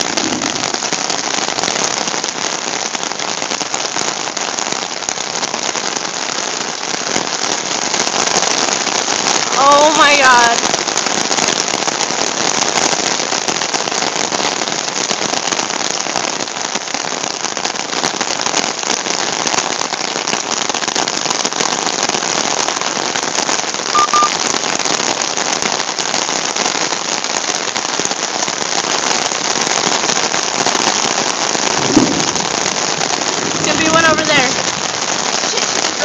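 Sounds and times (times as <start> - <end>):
heavy rain on umbrella: 0.0 - 36.0.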